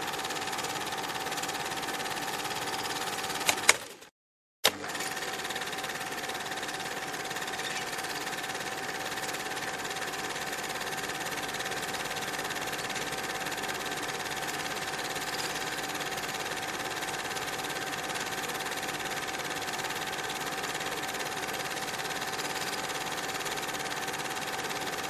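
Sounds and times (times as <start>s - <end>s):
mechanical whirr with clatter: 0.0s - 25.0s.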